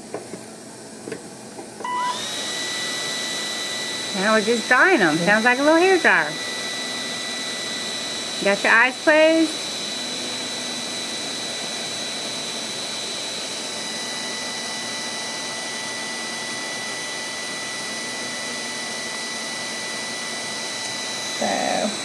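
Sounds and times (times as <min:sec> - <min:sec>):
small air blower whooshing: 0:01.9 - 0:22.0.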